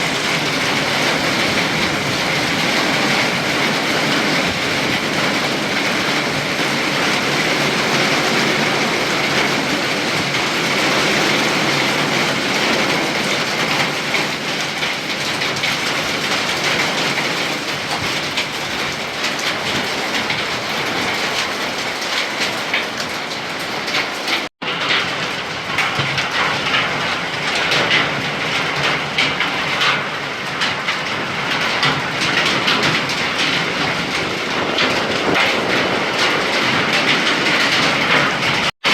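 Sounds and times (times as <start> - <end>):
drops or hail pattering: 0.0 - 38.9
heavy rain in strong wind: 0.0 - 38.9.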